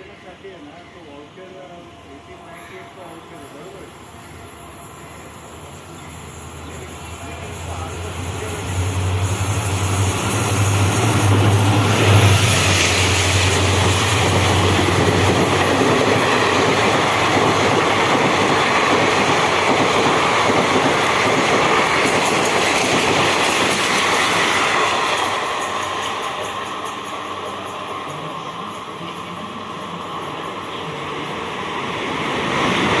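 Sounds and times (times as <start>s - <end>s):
train coaches rushing by: 0.0s - 33.0s
locomotive hum: 3.0s - 33.0s.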